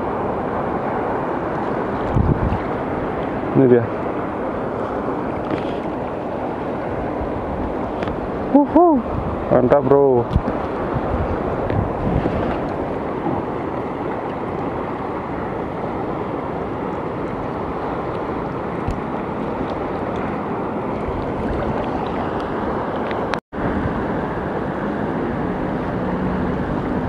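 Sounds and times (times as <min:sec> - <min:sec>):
small waves on shallow water: 0:00.0 - 0:27.0
wind: 0:00.0 - 0:27.0
wind rumbling on microphone: 0:00.0 - 0:27.0.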